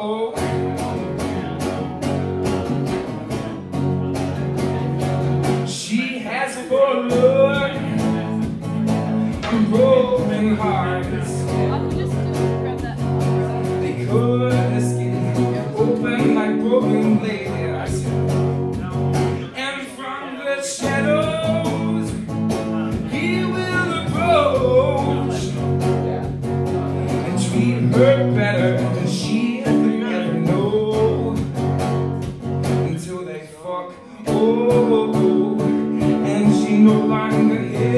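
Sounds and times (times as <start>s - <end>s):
man singing: 0.0s - 2.3s, 3.3s - 31.8s, 32.6s - 37.9s
strummed acoustic guitar: 0.0s - 37.9s.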